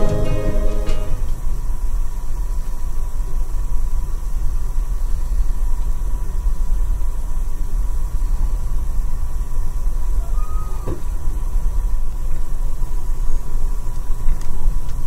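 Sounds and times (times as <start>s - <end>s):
faint high whine: 0.0s - 15.0s
train rumbling from inside: 0.0s - 15.0s.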